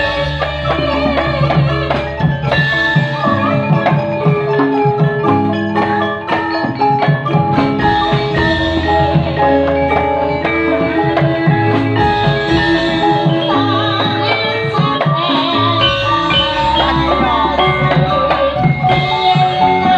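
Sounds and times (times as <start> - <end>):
drums: 0.0 - 19.9
struck metallophones: 0.0 - 19.9.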